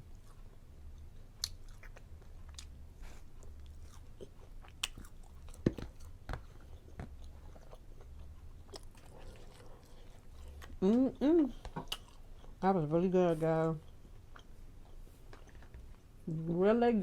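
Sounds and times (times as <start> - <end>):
person chewing food: 0.0 - 12.6, 13.8 - 16.2.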